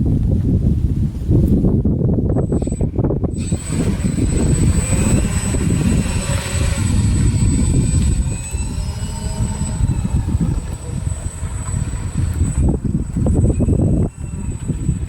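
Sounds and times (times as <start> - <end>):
wind buffeting on microphone: 0.0 - 15.0
model plane electric motors whining: 2.2 - 15.0.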